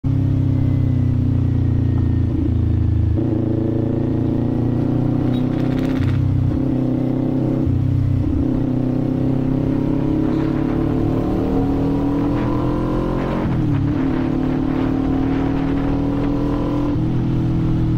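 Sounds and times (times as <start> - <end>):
motorcycle engine running: 0.1 - 17.9.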